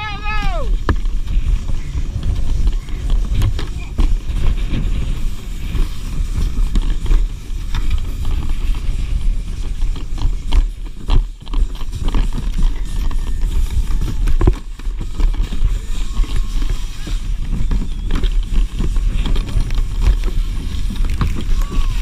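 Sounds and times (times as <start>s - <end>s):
kayak scraping down snow: 0.0s - 22.0s
knocks and crunches on snow: 0.0s - 22.0s.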